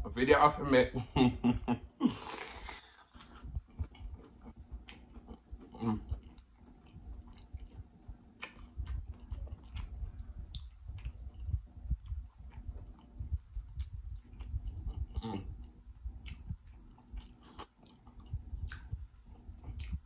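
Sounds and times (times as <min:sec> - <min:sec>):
chewing food: 0:02.6 - 0:20.0.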